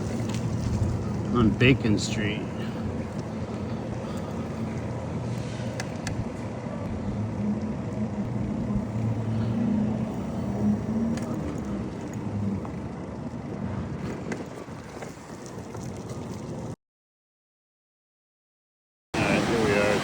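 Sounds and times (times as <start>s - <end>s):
low engine hum: 0.0s - 16.8s
wind and road noise from bicycle: 0.0s - 16.8s.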